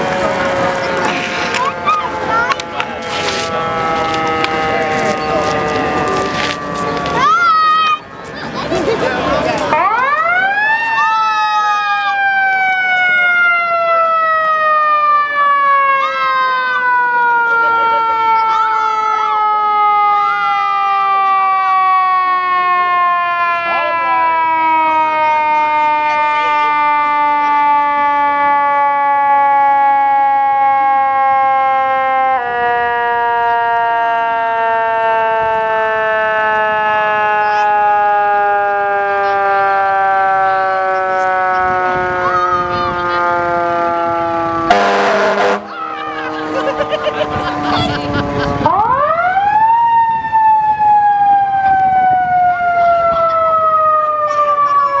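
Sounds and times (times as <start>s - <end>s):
fire truck siren: 0.0s - 55.0s.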